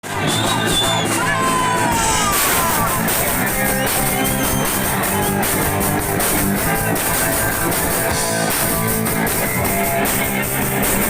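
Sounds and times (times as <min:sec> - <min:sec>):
punk band playing live: 0:00.0 - 0:11.0.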